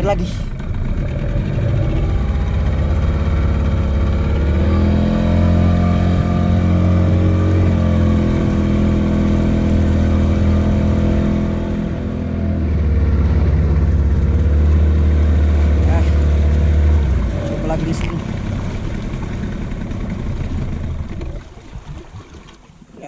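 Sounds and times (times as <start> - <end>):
boat motor running: 0.0 - 22.9.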